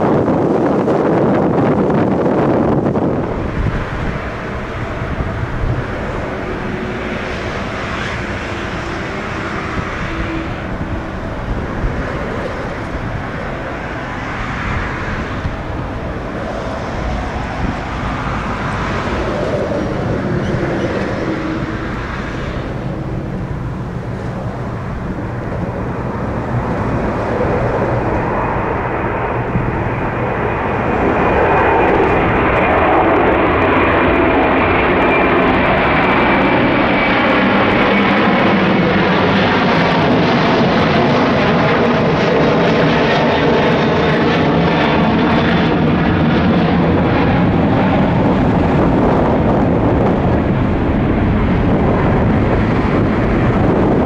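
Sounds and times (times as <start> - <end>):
airliner jet engines: 0.0 - 54.0.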